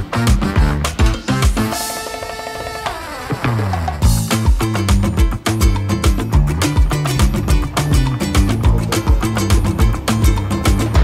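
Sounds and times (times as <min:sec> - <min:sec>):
upbeat music with drum beat: 0:00.0 - 0:11.0.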